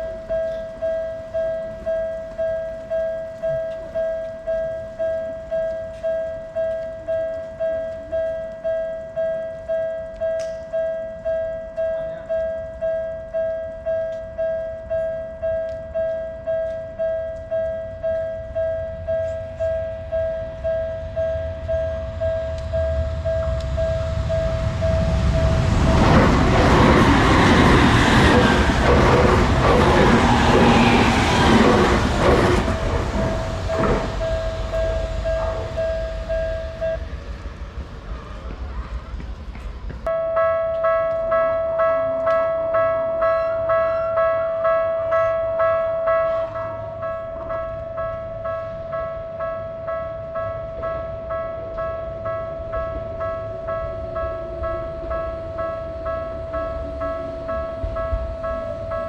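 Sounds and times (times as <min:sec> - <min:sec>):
level-crossing warning bell: 0:00.0 - 0:39.0, 0:40.0 - 0:59.0
train passing: 0:00.0 - 0:59.0.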